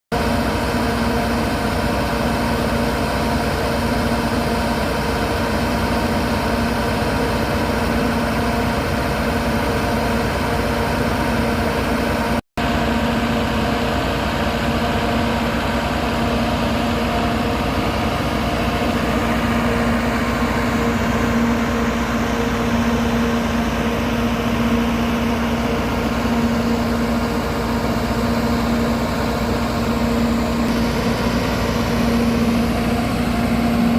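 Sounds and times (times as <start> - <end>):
train engine droning: 0.1 - 33.9.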